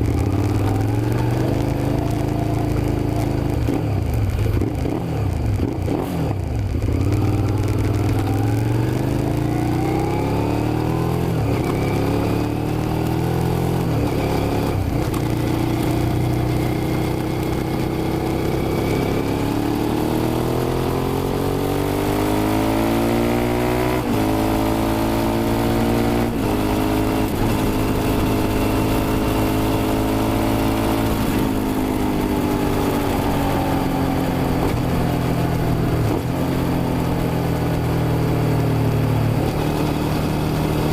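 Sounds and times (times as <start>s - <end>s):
motorcycle engine accelerating hard: 0.0s - 40.9s.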